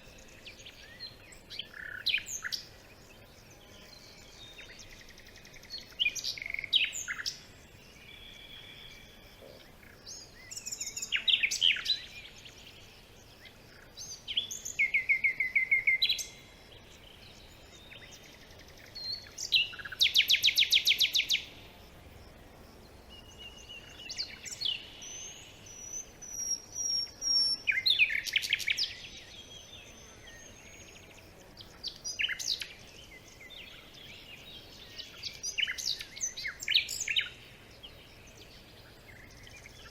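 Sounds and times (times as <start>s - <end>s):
forest birds singing and calling: 0.0s - 39.9s.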